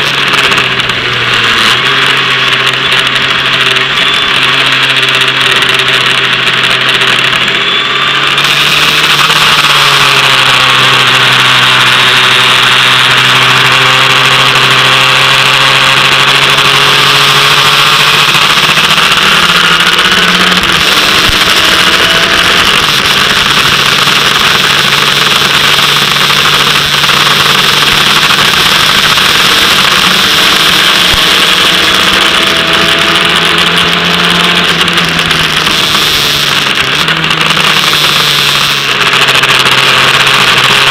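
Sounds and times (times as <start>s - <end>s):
racing car engine running hard: 0.0s - 40.9s.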